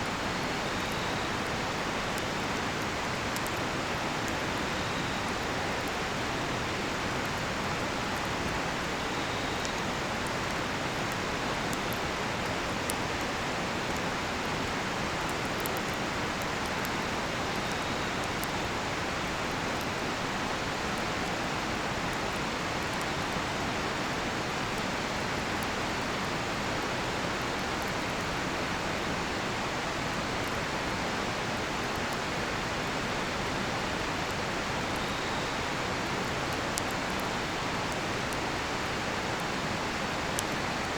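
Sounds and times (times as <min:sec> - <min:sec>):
campfire crackling and popping: 0:00.1 - 0:28.4, 0:31.6 - 0:40.9.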